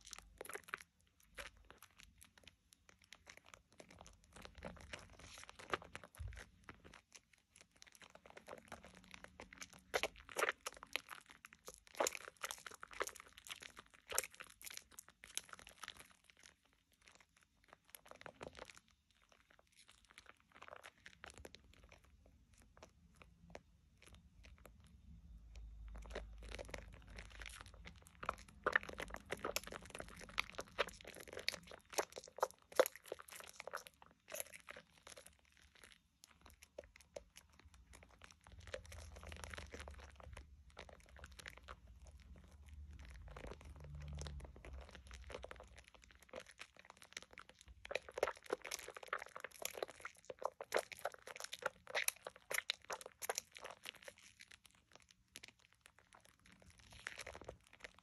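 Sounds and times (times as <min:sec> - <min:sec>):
soap lather crackling: 0:00.0 - 0:58.0.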